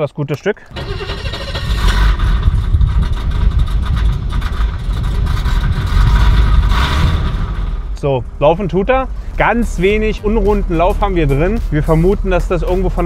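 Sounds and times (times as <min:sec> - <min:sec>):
car engine idling: 0:00.7 - 0:13.0.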